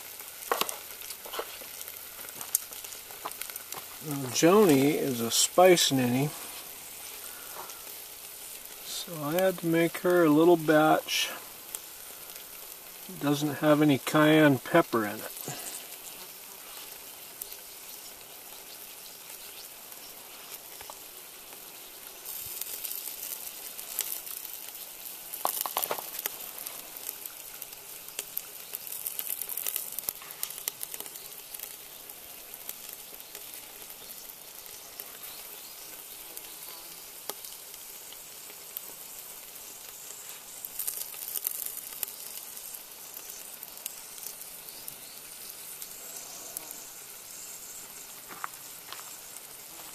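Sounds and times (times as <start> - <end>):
meat sizzling on a grill: 0.0 - 49.9.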